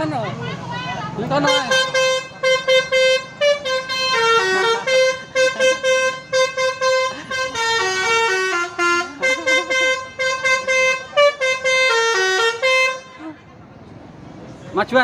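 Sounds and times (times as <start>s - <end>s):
musical bus horn beeping tune: 1.3s - 13.4s.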